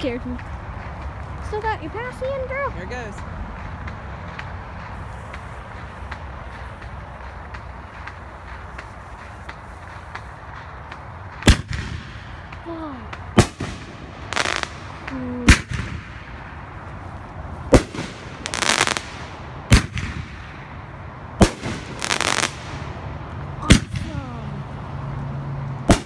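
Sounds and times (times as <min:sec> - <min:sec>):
fireworks crackling: 0:00.0 - 0:26.0
fireworks bangs: 0:03.8 - 0:24.7.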